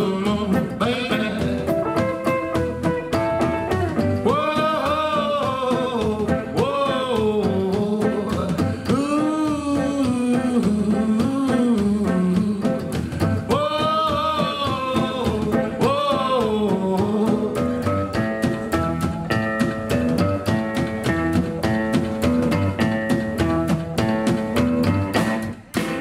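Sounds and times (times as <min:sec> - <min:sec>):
rockabilly band playing: 0:00.0 - 0:26.0.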